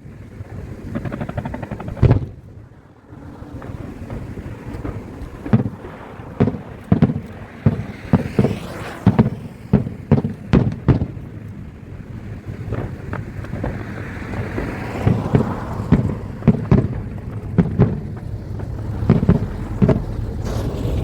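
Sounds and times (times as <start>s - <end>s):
wind noise on microphone: 0.0s - 21.0s
fireworks booming: 0.4s - 21.0s.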